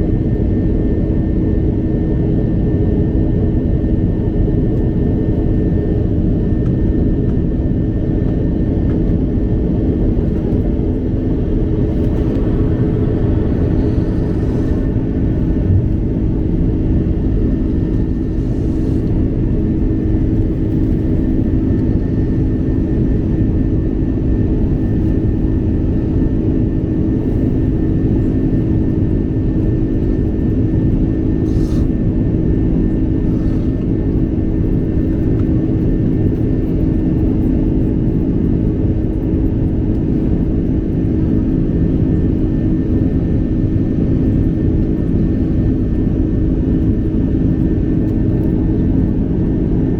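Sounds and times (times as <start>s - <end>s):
airliner cabin engine drone: 0.0s - 49.9s
faint steady hum: 2.9s - 49.9s.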